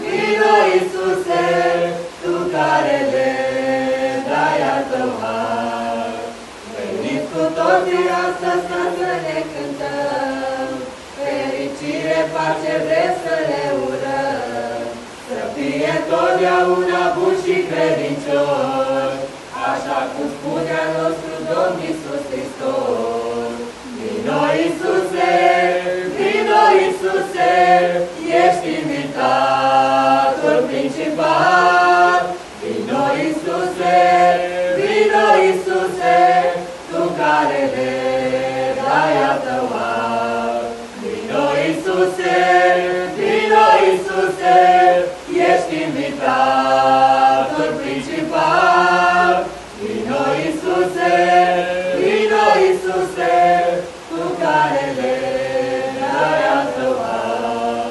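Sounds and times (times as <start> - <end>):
group singing a cappella: 0.0 - 57.9.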